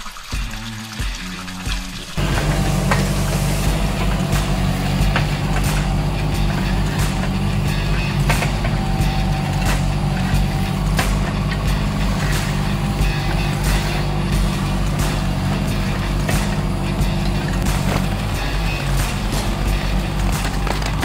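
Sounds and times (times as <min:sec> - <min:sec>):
diesel engine running under load: 0:02.2 - 0:21.0
excavator bucket knocking: 0:02.2 - 0:21.0.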